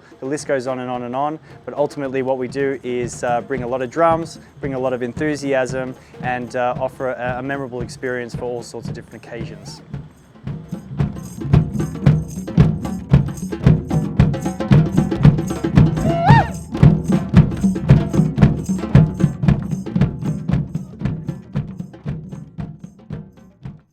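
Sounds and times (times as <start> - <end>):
group hand drumming: 0.8 - 23.8.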